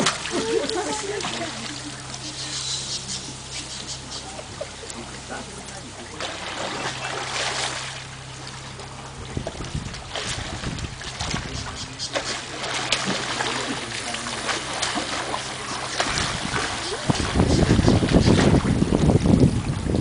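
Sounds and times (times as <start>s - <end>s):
boat motor idling: 0.0s - 20.0s
water splashing: 0.0s - 20.0s.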